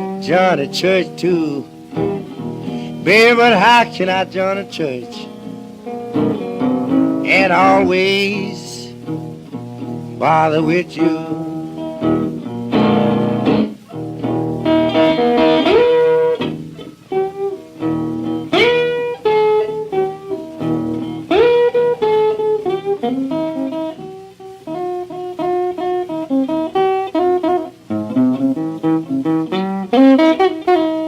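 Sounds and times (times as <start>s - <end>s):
blues guitar single-note lines: 0.0s - 31.0s.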